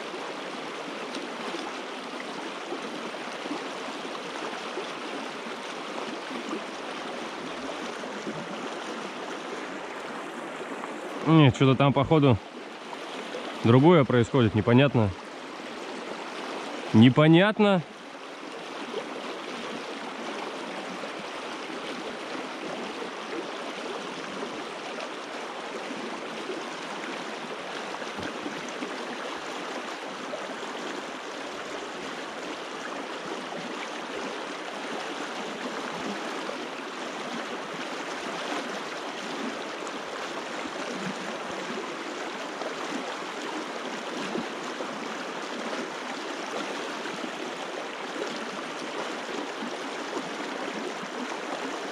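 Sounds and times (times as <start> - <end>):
stream water rushing and gurgling: 0.0 - 51.9.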